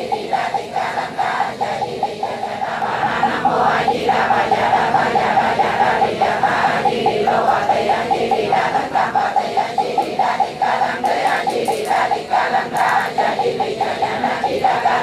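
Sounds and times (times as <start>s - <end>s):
congregation chanting in unison: 0.0s - 15.0s
fast even knocking beat: 0.0s - 15.0s.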